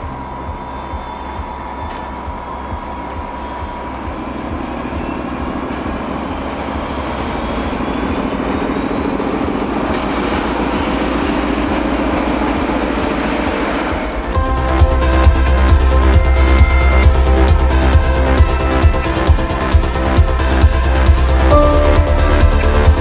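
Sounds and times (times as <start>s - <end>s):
diesel locomotive pulling train: 0.0s - 23.0s.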